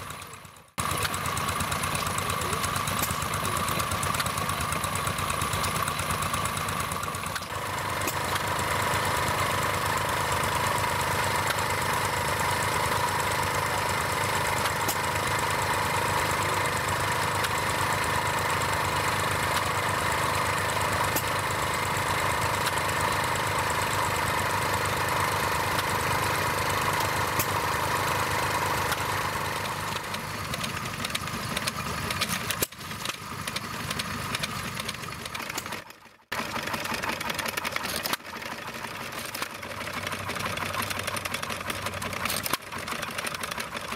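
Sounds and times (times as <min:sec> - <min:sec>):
small stationary engines running: 0:00.0 - 0:43.9.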